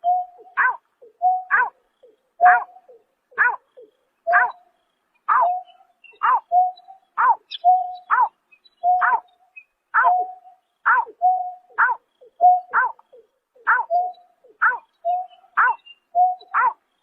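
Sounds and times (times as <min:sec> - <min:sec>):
bird hooting calls: 0:00.0 - 0:16.8.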